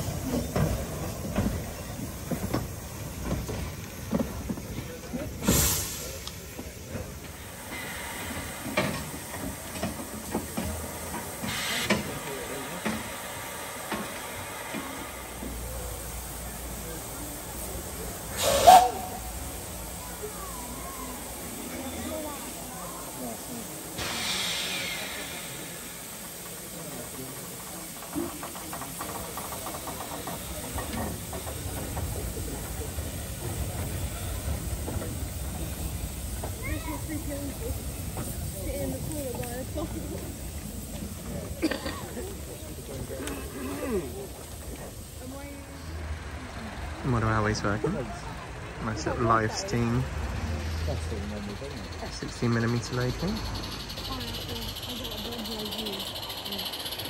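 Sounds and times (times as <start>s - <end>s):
steam hiss bursts: 0.0s - 57.0s
train noise: 0.0s - 57.0s.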